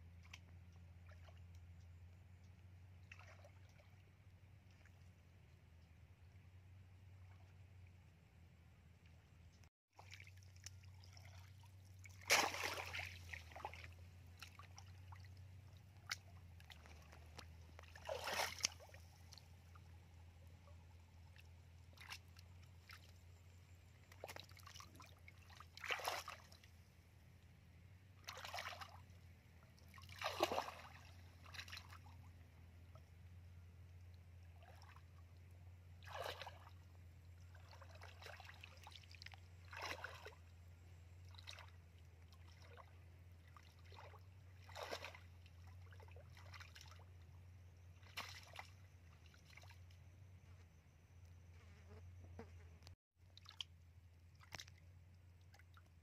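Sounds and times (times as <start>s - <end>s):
muddy water splashing: 0.0s - 5.2s, 10.0s - 27.0s, 28.1s - 50.4s, 53.2s - 56.0s.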